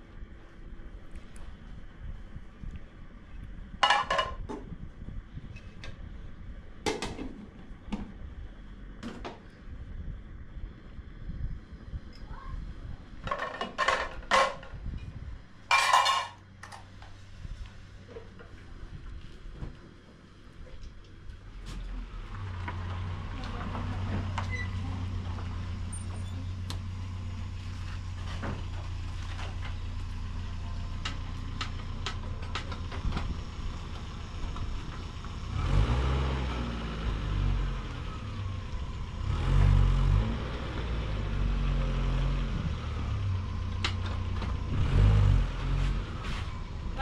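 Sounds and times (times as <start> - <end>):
engine humming: 0.0 - 47.0.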